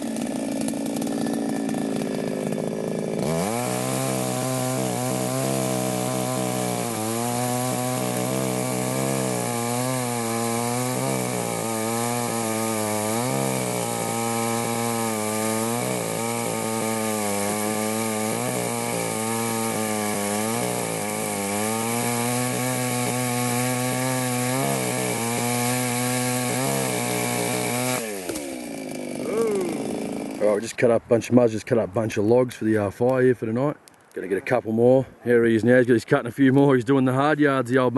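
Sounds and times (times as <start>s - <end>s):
chainsaw cutting logs: 0.0s - 30.9s.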